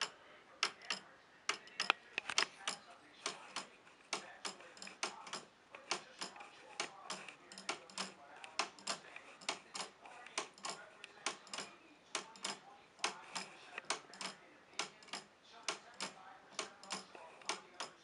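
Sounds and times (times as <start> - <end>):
pendulum clock ticking: 2.6 - 18.0.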